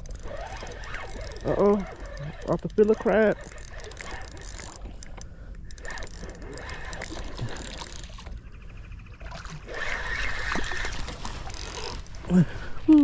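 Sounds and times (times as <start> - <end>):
fishing reel ticking: 0.0 - 12.3.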